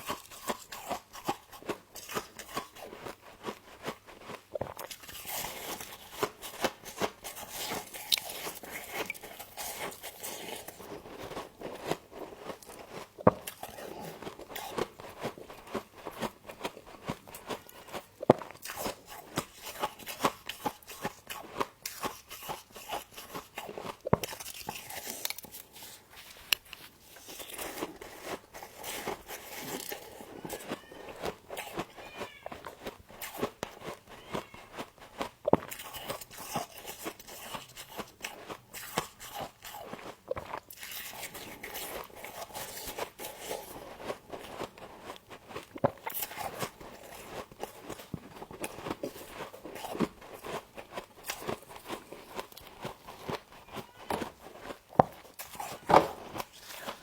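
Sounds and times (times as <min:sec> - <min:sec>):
chewing crunchy ice frost: 0:00.0 - 0:57.0.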